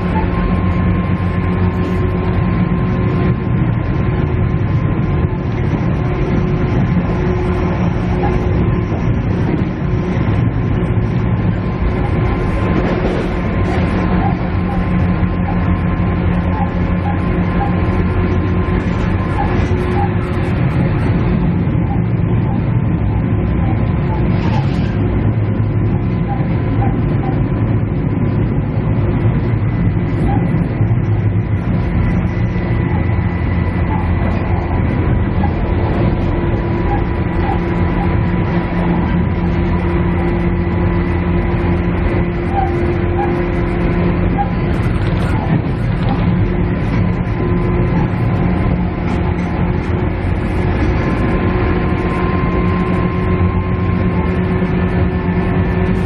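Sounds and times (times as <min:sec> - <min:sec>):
diesel engine drone: 0:00.0 - 0:56.0
wheels rumbling on track: 0:00.0 - 0:56.0.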